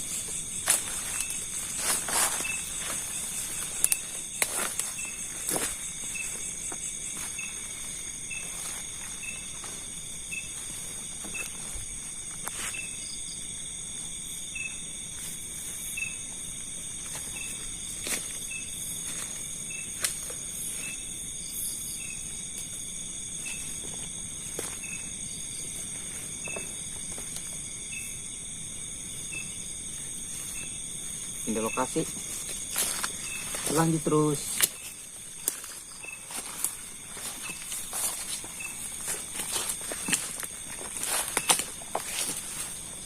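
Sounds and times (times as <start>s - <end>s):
insects shrilling: 0.0s - 43.0s
rustles and steps in vegetation: 0.0s - 43.0s.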